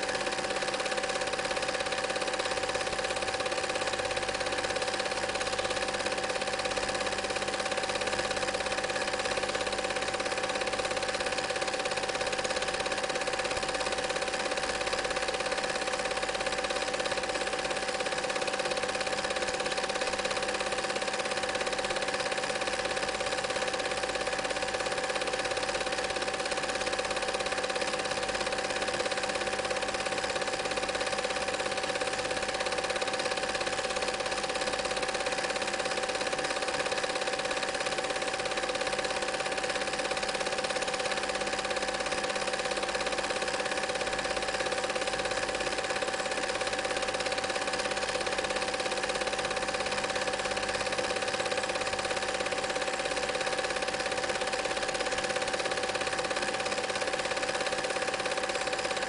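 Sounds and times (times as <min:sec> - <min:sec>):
film projector whirring and rattling: 0:00.0 - 0:59.0.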